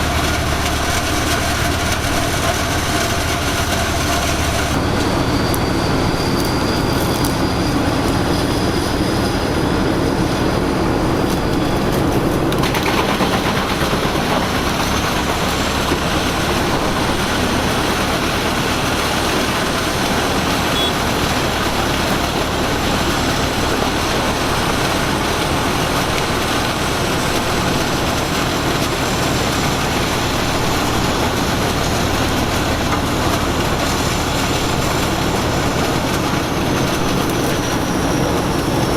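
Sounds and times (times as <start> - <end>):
wood chipper running: 0.0 - 38.9.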